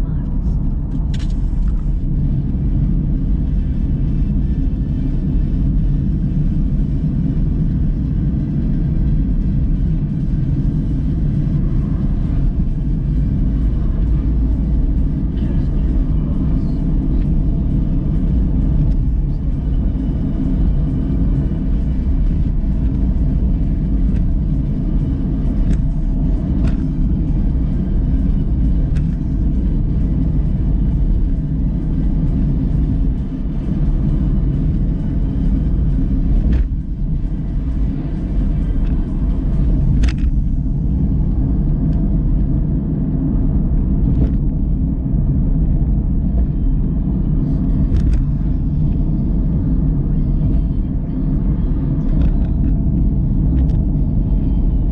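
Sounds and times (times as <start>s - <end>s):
car cabin road rumble: 0.0s - 54.9s.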